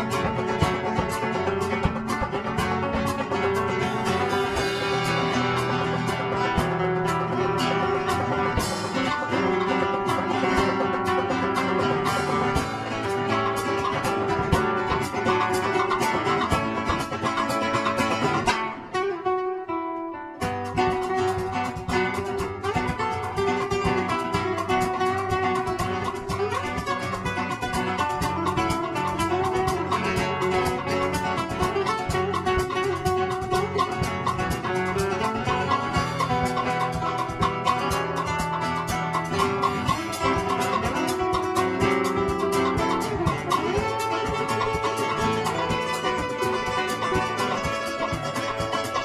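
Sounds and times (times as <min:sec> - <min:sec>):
drum kit: 0:00.0 - 0:19.4, 0:20.4 - 0:49.0
acoustic guitars playing: 0:00.0 - 0:49.0.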